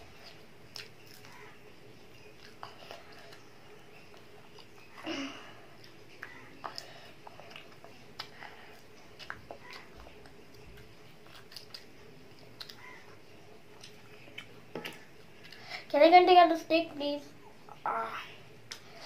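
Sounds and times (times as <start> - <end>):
child chewing food: 0.0 - 16.0, 18.6 - 19.0.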